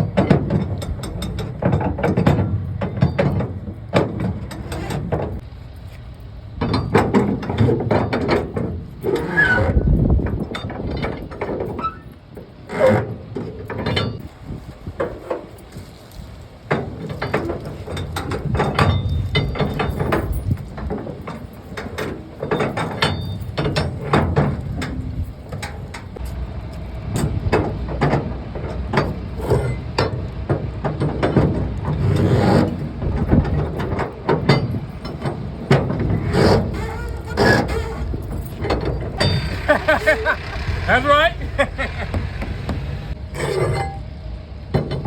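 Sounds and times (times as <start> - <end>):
heavy metal knocks and clanks: 0.0 - 5.5, 6.6 - 11.8, 16.7 - 40.9, 41.5 - 44.0, 44.7 - 45.0
low engine rumble: 0.0 - 45.0.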